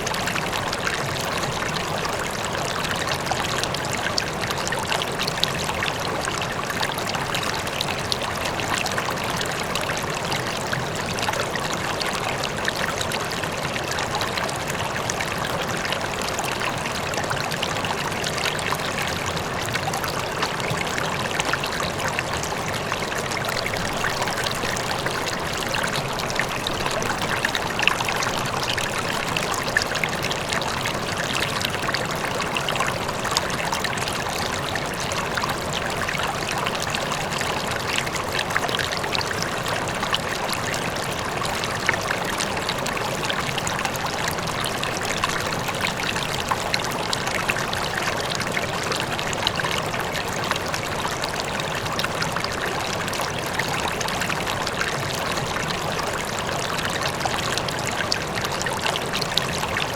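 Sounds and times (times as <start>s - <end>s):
faint waterfall: 0.0s - 59.9s
river flowing over stones: 0.0s - 59.9s.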